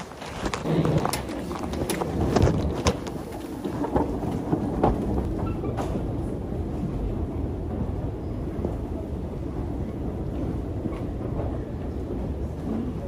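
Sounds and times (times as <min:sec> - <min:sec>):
escalator rumbling: 0:00.0 - 0:13.0.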